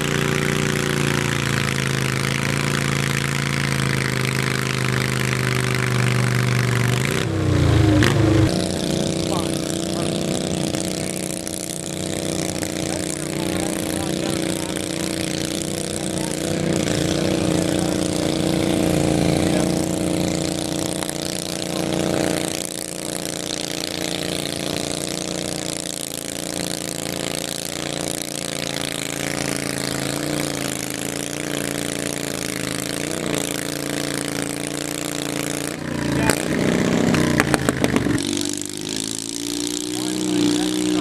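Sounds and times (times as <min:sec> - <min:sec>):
garden tractor engine running: 0:00.0 - 0:41.0.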